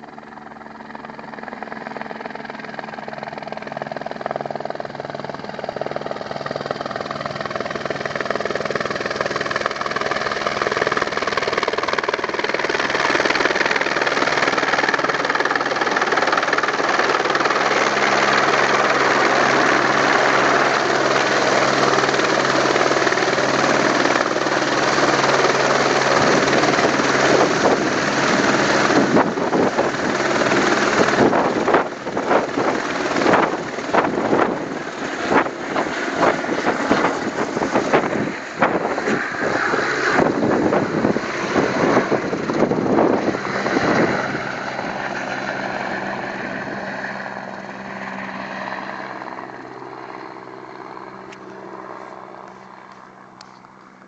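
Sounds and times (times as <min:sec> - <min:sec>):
helicopter rotor and turbine: 0:00.0 - 0:54.0.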